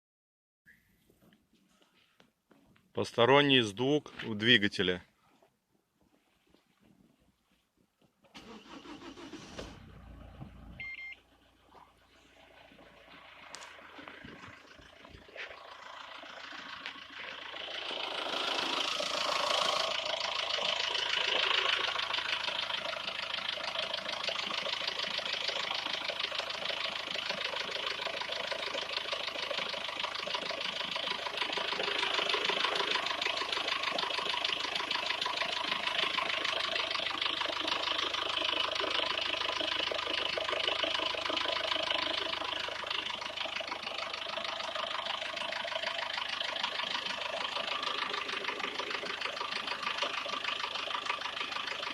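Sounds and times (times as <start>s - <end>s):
engine idling with ticking: 8.4s - 51.9s.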